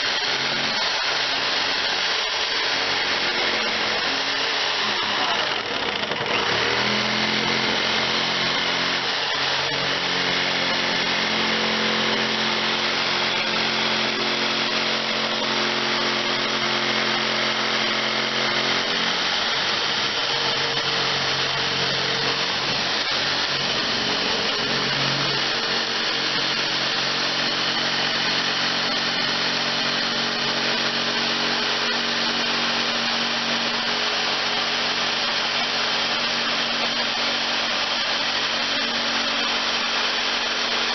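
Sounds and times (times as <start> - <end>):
power tool running under load: 0.0 - 40.9.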